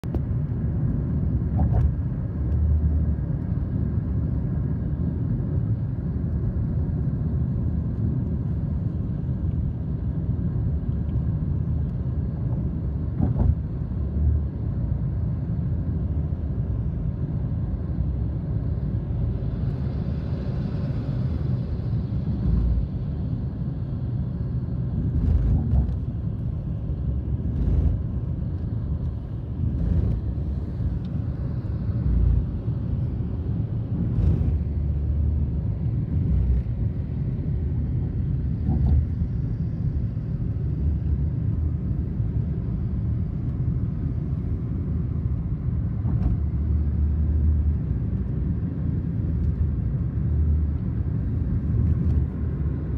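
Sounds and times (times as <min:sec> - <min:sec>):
car road rumble inside cabin: 0:00.0 - 0:52.9.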